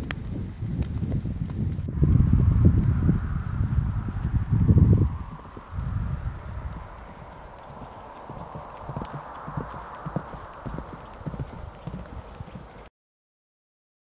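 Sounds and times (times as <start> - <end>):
horse hooves trotting on grass: 0.0 - 12.9.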